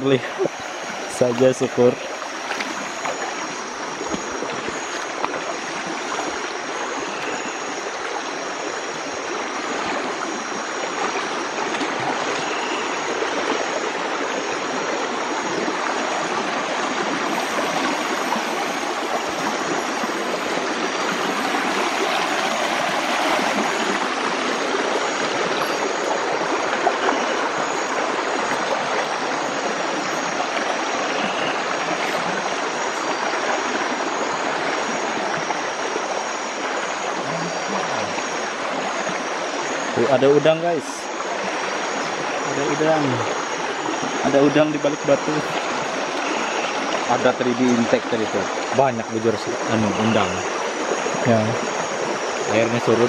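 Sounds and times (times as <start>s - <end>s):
river water rushing over stones: 0.0s - 53.0s.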